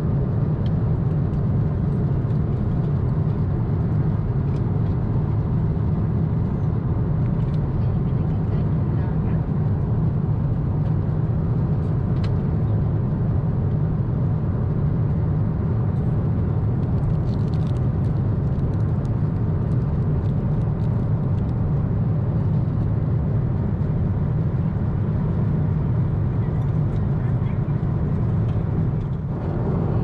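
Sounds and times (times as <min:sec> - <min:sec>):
airplane cabin rumble: 0:00.0 - 0:30.0.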